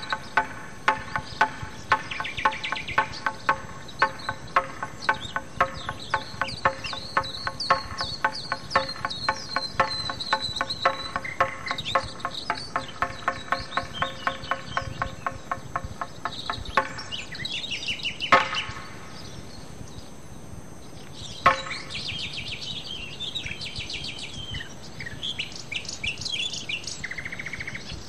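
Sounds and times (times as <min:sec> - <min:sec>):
birds chirping and singing: 0:00.0 - 0:28.0.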